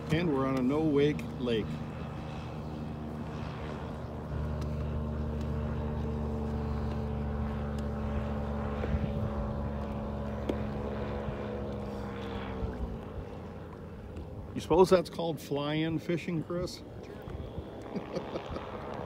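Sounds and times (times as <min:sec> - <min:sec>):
propeller engine droning: 0:00.0 - 0:19.0.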